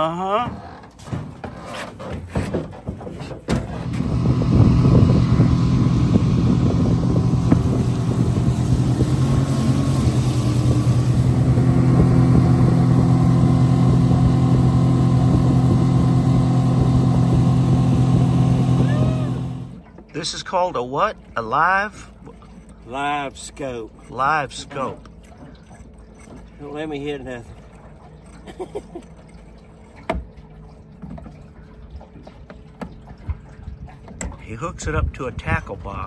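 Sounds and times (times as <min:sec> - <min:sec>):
knocks and clatter on boat: 0:00.0 - 0:36.0
outboard motor running: 0:00.0 - 0:36.0
water rushing along hull: 0:00.0 - 0:36.0.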